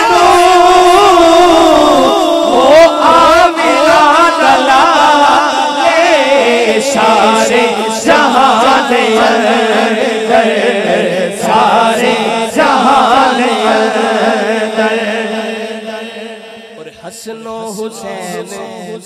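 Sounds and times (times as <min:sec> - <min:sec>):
men singing a devotional hymn: 0:00.0 - 0:19.0.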